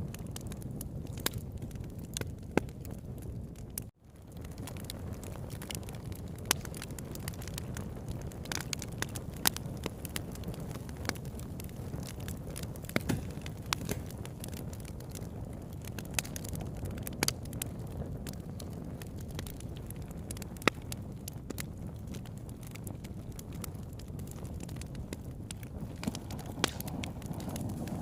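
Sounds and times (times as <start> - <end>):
campfire flames rushing: 0.0 - 28.0
wood crackling and popping: 0.0 - 28.0.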